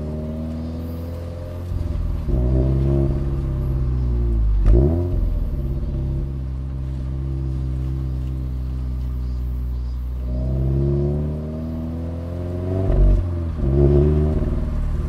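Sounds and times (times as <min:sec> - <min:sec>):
car engine revving while driving: 0:00.0 - 0:15.0.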